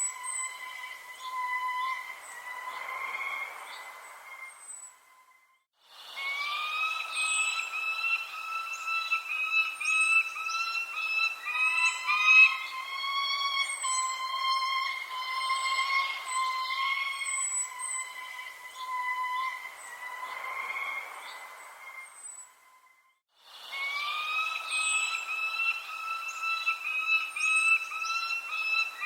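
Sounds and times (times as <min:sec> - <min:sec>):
birds chirping: 0:00.0 - 0:05.6, 0:06.2 - 0:22.9, 0:23.7 - 0:29.0
steady whistling tone: 0:00.0 - 0:22.7, 0:23.6 - 0:29.0
wavering whistled notes: 0:00.0 - 0:29.0.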